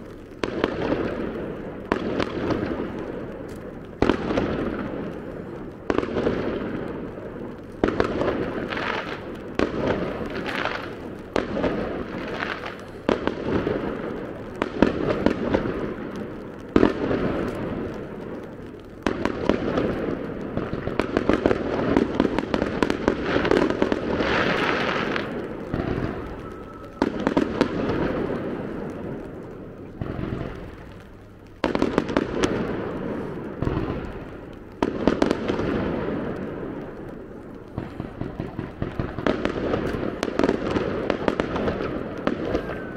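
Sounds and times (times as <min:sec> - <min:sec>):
rapid crackling pops: 0:00.0 - 0:42.9.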